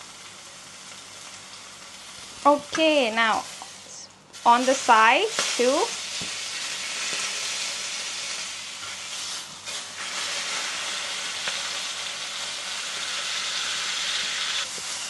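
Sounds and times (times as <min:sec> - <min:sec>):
steak sizzling in a pan: 0:00.0 - 0:15.0.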